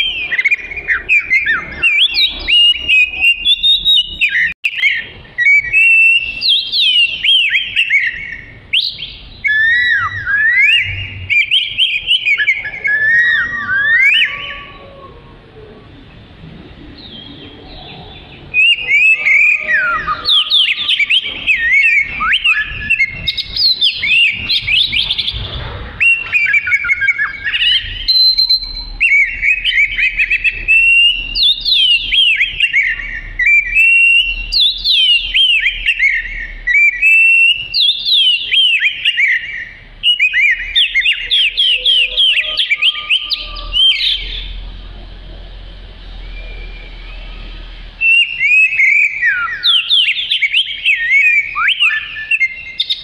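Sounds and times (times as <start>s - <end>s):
bird singing whistled notes: 0.0s - 15.0s, 17.0s - 25.4s, 26.0s - 44.6s, 46.1s - 53.0s.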